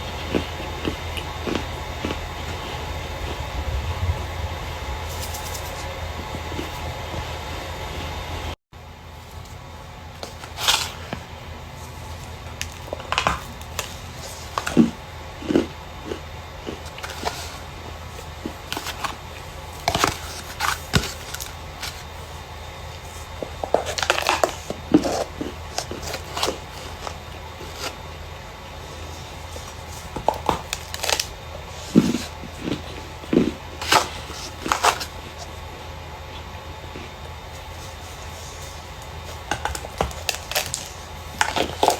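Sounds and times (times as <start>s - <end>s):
dry starch crunching: 0.0s - 8.5s, 9.1s - 35.8s, 36.4s - 41.9s
steady low hum: 0.0s - 41.9s.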